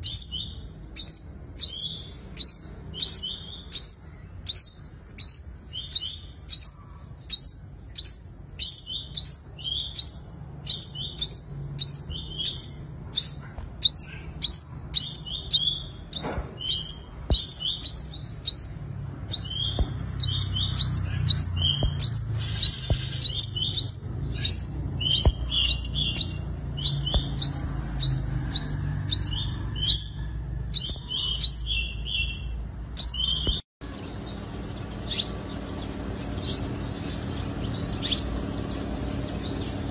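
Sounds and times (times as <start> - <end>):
bird chirping high notes: 0.0 - 39.9.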